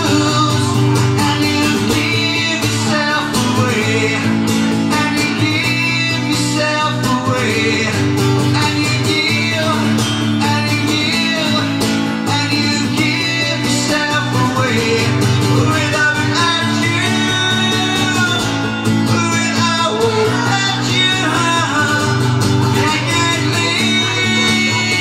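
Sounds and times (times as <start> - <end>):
acoustic guitar strumming: 0.0 - 25.0
man singing into microphone: 0.0 - 25.0.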